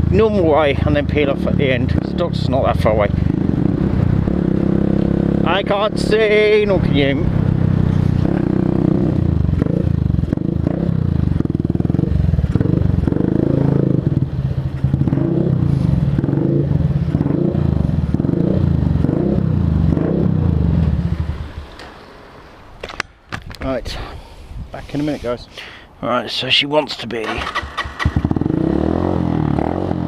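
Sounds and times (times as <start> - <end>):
motorcycle engine revving: 0.0 - 22.0, 27.2 - 30.0.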